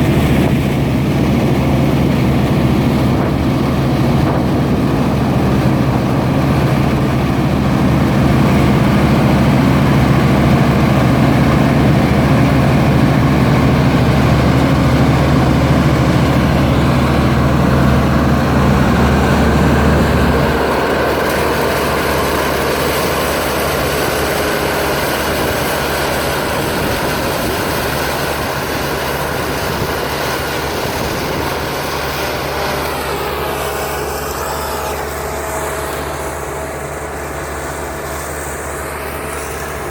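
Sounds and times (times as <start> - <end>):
combine harvester engine rumble: 0.0 - 39.9.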